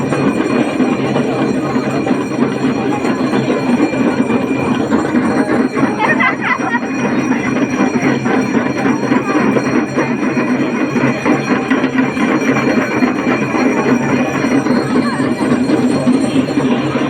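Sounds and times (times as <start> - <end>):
rattling hand drums: 0.0 - 17.0.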